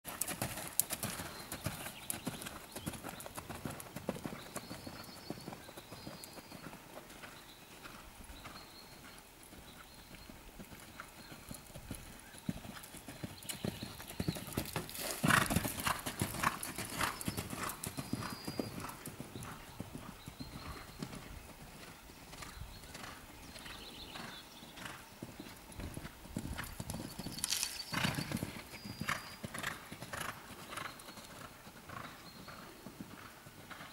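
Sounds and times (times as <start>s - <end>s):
horse hooves cantering on sand: 0.1s - 33.9s.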